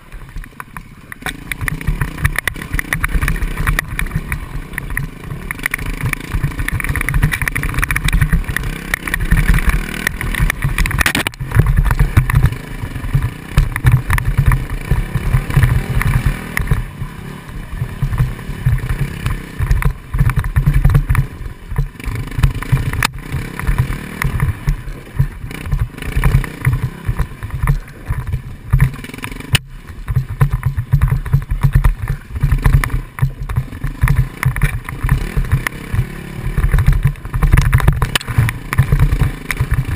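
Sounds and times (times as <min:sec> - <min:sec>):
bike knocking on rocks: 0:00.0 - 0:39.9
motorcycle engine revving: 0:00.0 - 0:39.9.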